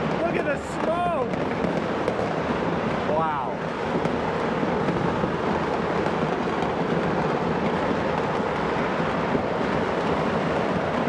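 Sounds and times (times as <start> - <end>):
fireworks crackling rumble: 0.0 - 11.0.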